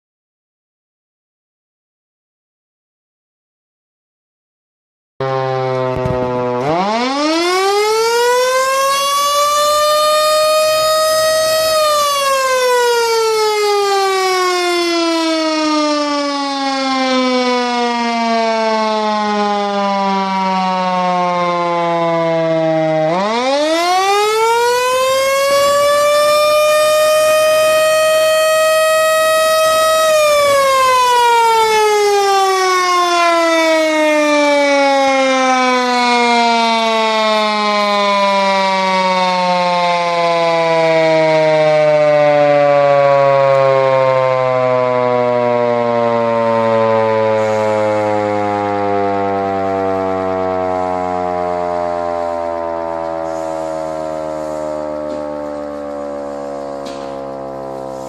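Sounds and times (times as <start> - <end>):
electric siren wailing: 5.2 - 58.0.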